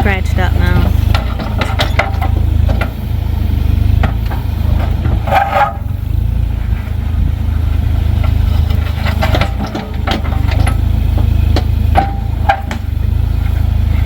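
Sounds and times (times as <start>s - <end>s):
earth-moving machine engine: 0.0s - 14.0s.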